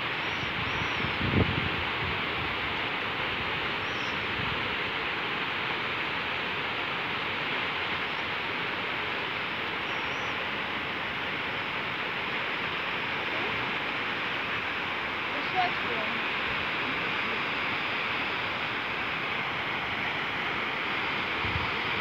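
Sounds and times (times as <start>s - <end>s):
water pouring over spillway: 1.1s - 22.0s.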